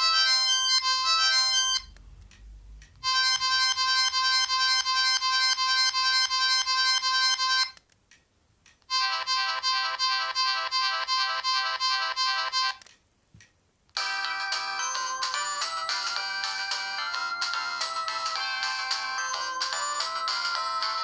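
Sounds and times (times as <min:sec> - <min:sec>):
phone ringtone tunes: 0:00.0 - 0:01.9, 0:03.0 - 0:07.8, 0:08.9 - 0:12.8, 0:14.0 - 0:21.0.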